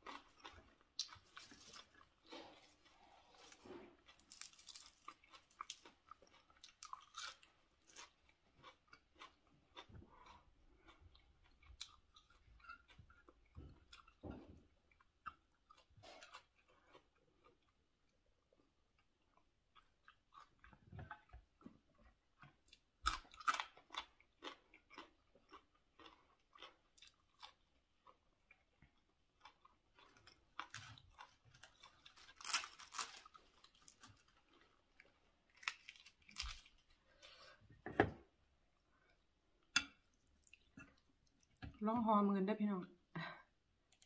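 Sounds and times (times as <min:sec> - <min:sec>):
person chewing crunchy food: 0:00.0 - 0:37.8, 0:38.7 - 0:41.6.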